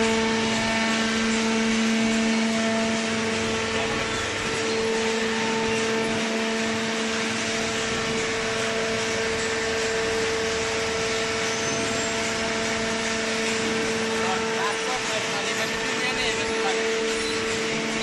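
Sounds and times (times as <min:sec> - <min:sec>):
baler machine hum: 0:00.0 - 0:18.0
pitched machine whine: 0:00.0 - 0:18.0.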